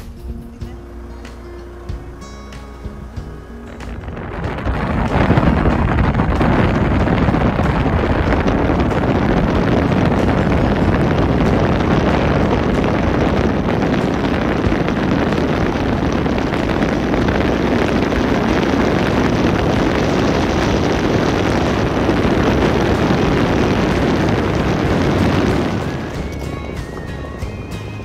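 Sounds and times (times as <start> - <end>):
moving vehicle rushing noise: 1.2 - 28.0
wind buffeting microphone: 2.8 - 28.0.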